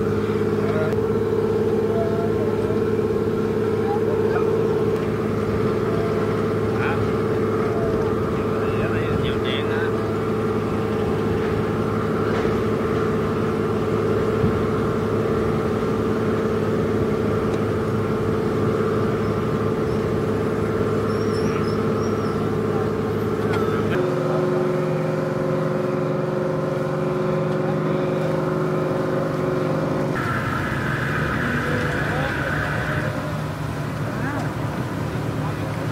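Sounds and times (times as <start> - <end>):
boat engine humming: 0.0 - 35.9.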